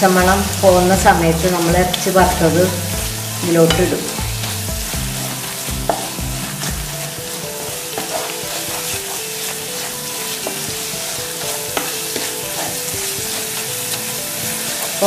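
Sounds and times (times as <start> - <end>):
masala sizzling in a pan: 0.0 - 15.0
spatula tapping and scraping pan: 1.9 - 15.0.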